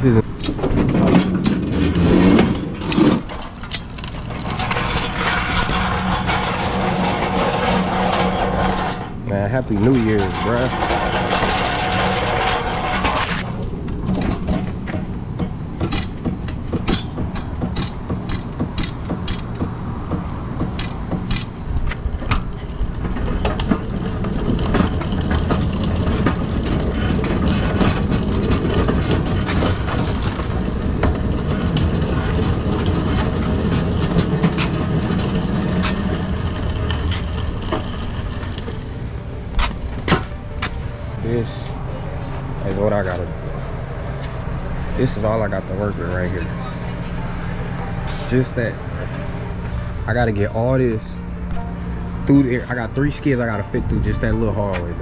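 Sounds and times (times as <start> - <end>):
metal rattles and clanks: 0.0 - 55.0
truck engine rumbling: 0.0 - 55.0.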